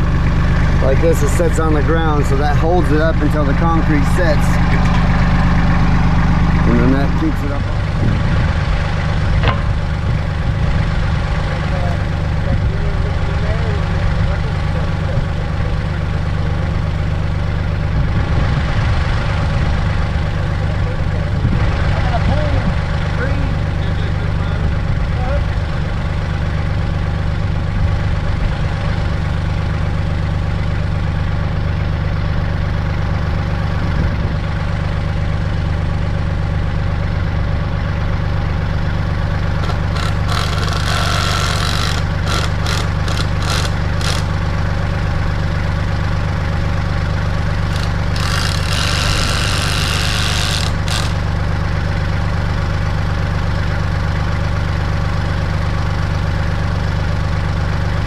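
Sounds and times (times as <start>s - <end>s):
tractor diesel engine idling: 0.0s - 58.0s.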